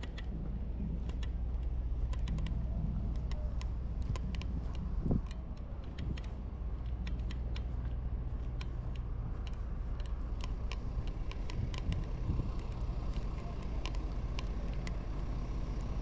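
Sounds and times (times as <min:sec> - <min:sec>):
light irregular ticks: 0:00.0 - 0:16.0
low rumble: 0:00.0 - 0:16.0.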